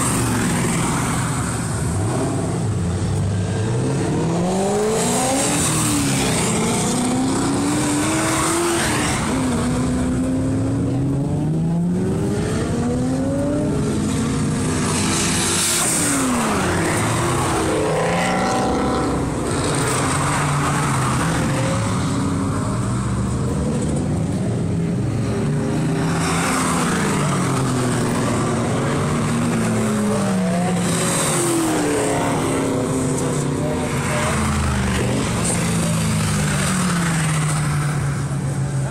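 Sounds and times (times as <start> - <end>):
race car engines accelerating: 0.0 - 38.9.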